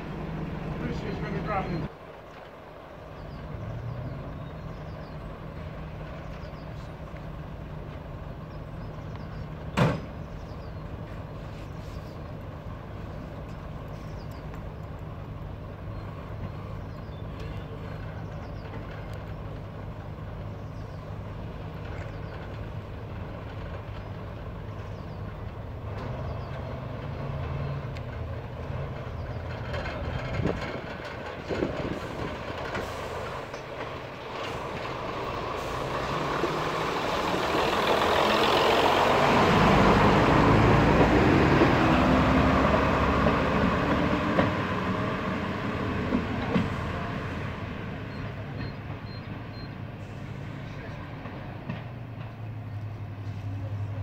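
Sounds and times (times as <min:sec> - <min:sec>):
diesel engines idling: 0:00.0 - 0:54.0
diesel train passing: 0:00.0 - 0:54.0.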